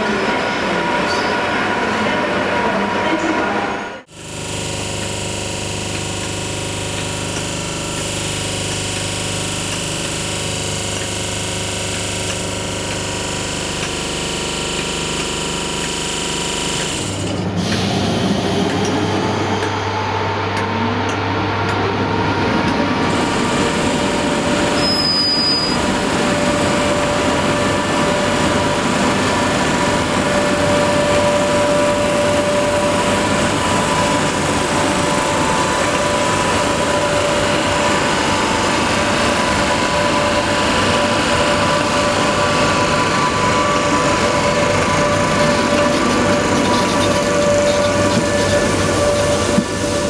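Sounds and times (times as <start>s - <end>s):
electric locomotive running noise: 0.0s - 50.0s.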